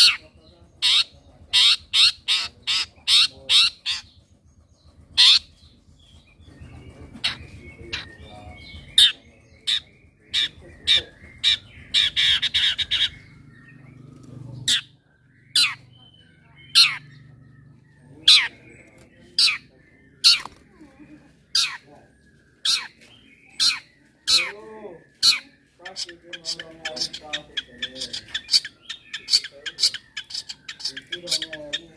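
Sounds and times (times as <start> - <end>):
bird sharp downward calls: 0.0 - 20.7, 21.4 - 31.9
bird rapid chattering: 0.0 - 31.9.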